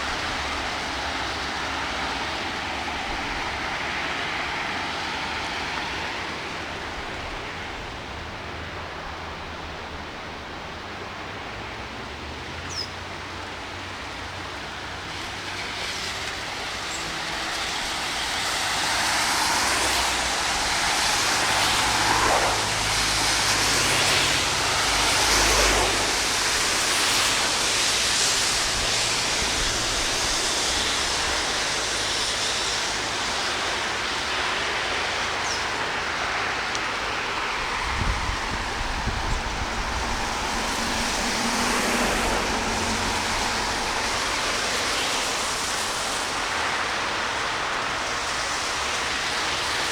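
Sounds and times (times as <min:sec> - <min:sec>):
heavy rain hissing: 0:00.0 - 0:49.9.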